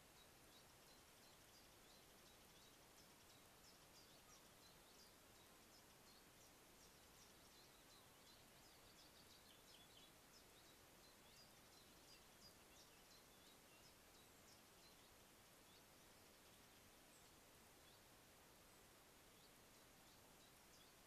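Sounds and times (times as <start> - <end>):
microphone hiss: 0.0 - 21.0
small birds chirping: 0.0 - 21.0.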